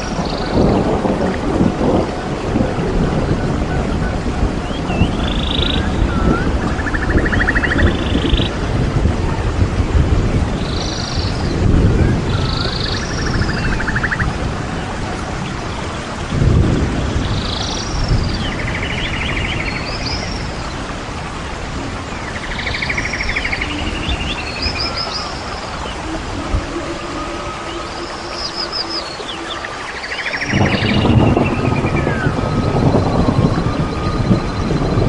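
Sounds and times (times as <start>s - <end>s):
rain hiss: 0.0s - 35.0s
wind buffeting microphone: 0.0s - 35.0s.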